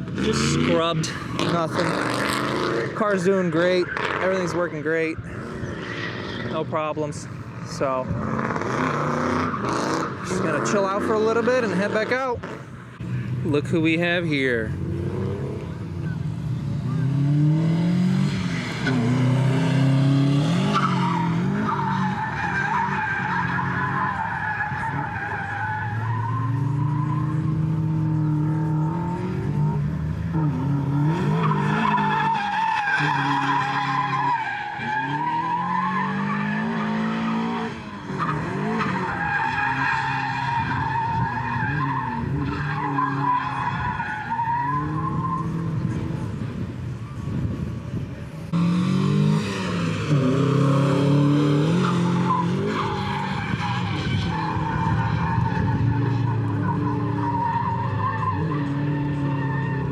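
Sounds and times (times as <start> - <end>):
car engine revving: 0.0 - 46.6, 48.4 - 59.9.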